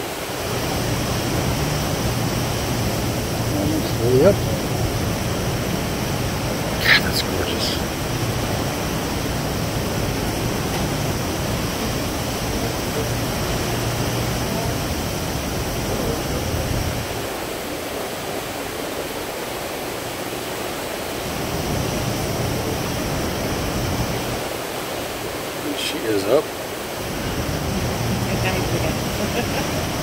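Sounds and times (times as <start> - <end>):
rush of wind and sea water: 0.0 - 30.0.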